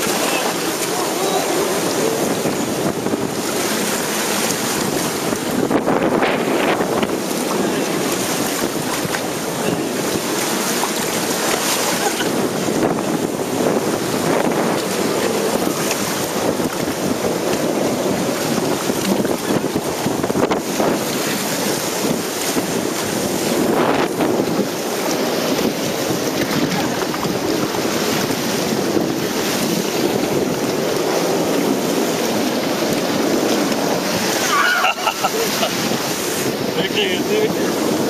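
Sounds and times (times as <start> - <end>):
water rushing: 0.0 - 38.0
wind buffeting microphone: 0.0 - 38.0.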